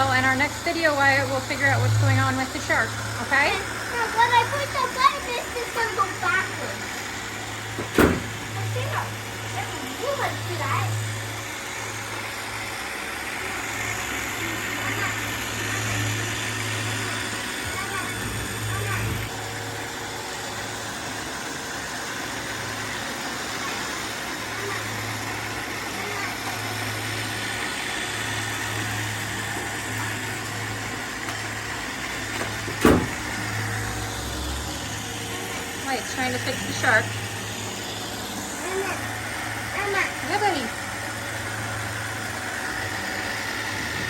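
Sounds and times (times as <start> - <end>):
robot vacuum motor hum: 0.0 - 44.0.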